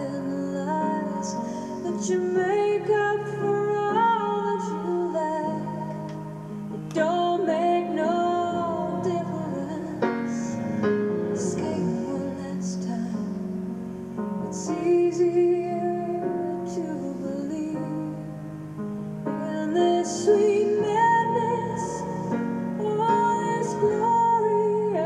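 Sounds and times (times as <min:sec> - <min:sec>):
woman singing: 0:00.0 - 0:10.6, 0:11.2 - 0:18.4, 0:19.3 - 0:25.0
instrumental accompaniment: 0:00.0 - 0:25.0.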